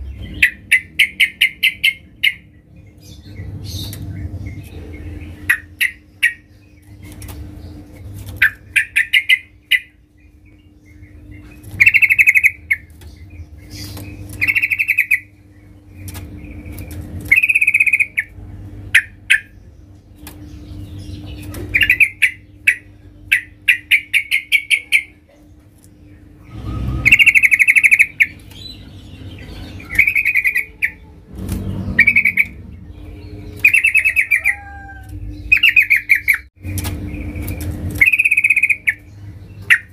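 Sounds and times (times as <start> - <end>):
bird chattering calls: 0.0 - 2.5, 4.7 - 7.2, 8.4 - 10.0, 10.9 - 15.4, 16.4 - 19.6, 20.7 - 25.4, 26.1 - 36.5, 37.2 - 39.9
steady low hum: 0.0 - 39.9.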